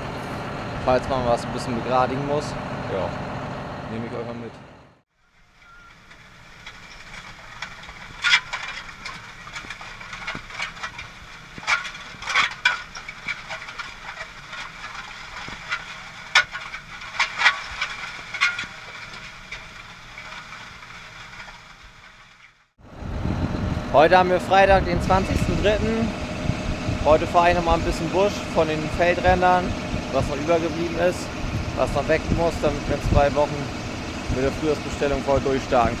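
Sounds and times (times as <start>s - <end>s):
rattling and clicking in tractor cab: 5.5s - 22.5s, 24.0s - 36.0s.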